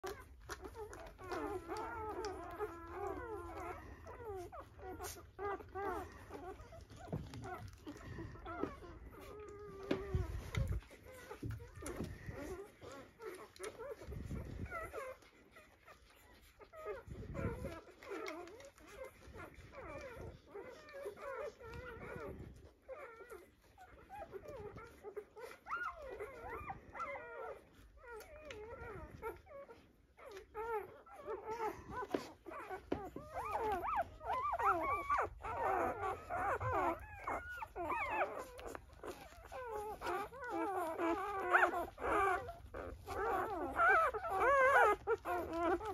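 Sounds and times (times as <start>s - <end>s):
puppies squeaking and whimpering: 0.0s - 45.9s.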